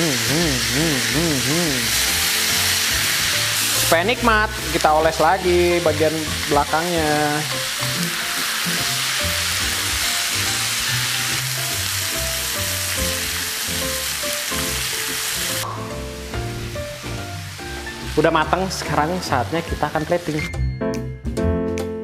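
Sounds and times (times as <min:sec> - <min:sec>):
prawns sizzling on grill: 0:00.0 - 0:20.5
background music: 0:00.0 - 0:22.0.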